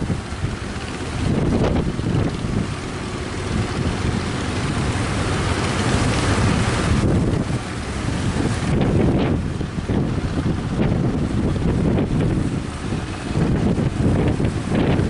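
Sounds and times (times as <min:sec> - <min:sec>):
waves breaking: 0:00.0 - 0:15.0
wind buffeting microphone: 0:00.0 - 0:15.0.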